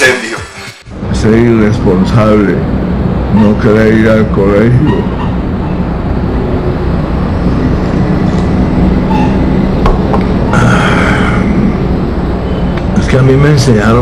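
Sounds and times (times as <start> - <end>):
low background rumble: 0.9 - 14.0.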